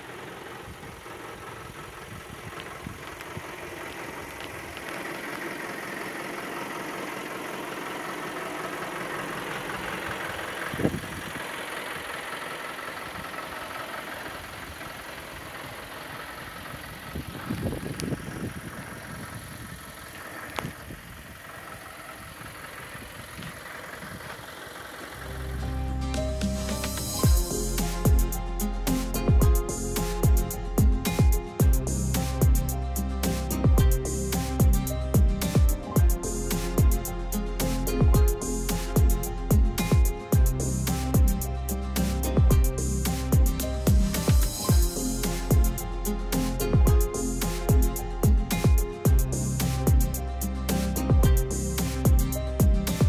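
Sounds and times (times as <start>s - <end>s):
diesel truck engine idling: 0.0s - 53.0s.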